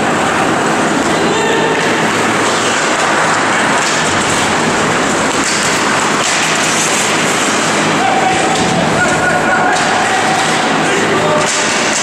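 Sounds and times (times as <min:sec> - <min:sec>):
ice hockey game noise: 0:00.0 - 0:12.0.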